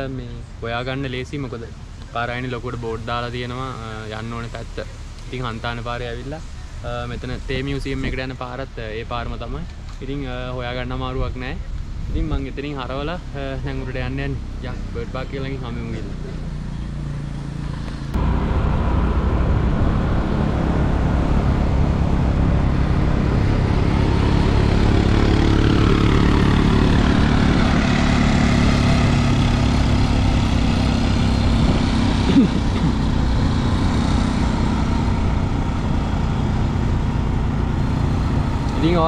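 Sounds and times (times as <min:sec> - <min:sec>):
motorbike engine rumbling: 0:00.0 - 0:39.0
road and air noise: 0:00.0 - 0:39.0.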